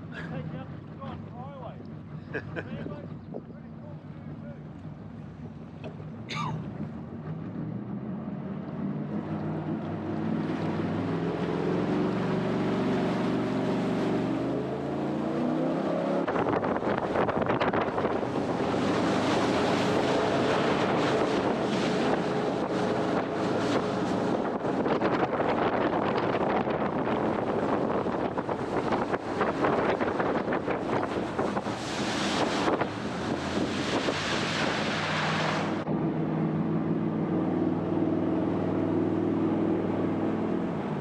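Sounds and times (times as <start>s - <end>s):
wind buffeting microphone: 0.0s - 7.9s, 9.5s - 41.0s
jet boat engine revving: 0.0s - 41.0s
water rushing: 0.0s - 41.0s.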